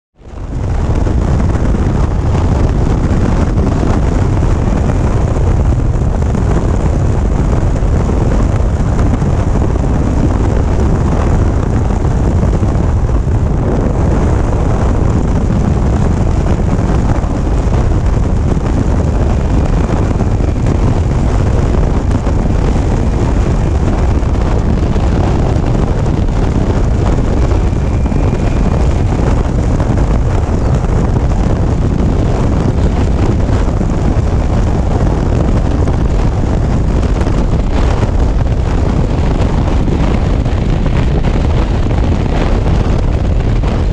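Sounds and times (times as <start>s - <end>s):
wind rushing over microphone: 0.2s - 43.9s.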